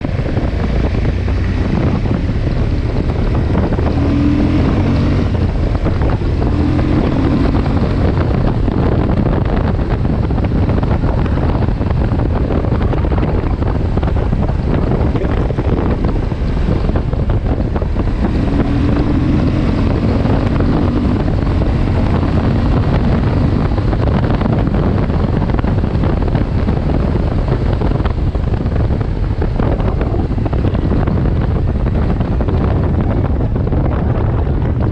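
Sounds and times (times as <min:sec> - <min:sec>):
motorcycle engine running: 0:00.0 - 0:34.9
wind rush on microphone: 0:00.0 - 0:34.9.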